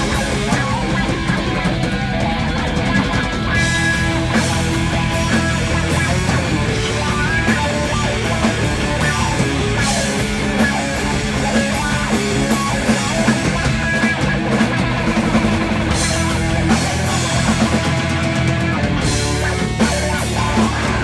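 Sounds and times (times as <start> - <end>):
heavy rock band playing: 0.0 - 21.0.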